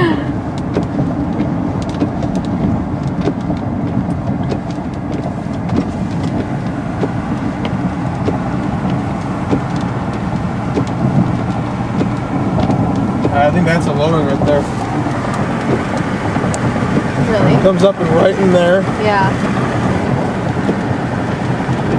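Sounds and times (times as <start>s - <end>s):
car road and engine noise: 0.0s - 21.9s.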